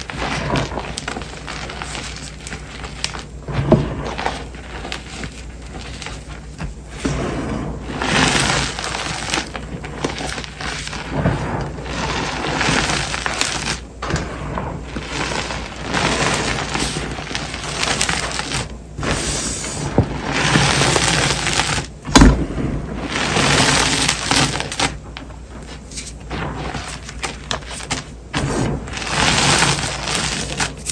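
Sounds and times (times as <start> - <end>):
chalk powder crunching: 0.0 - 22.4, 23.0 - 25.0, 25.7 - 30.9.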